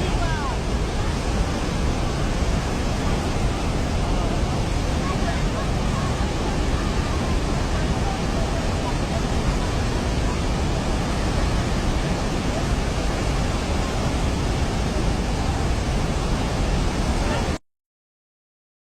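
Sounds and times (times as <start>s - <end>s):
river rushing: 0.0s - 17.6s.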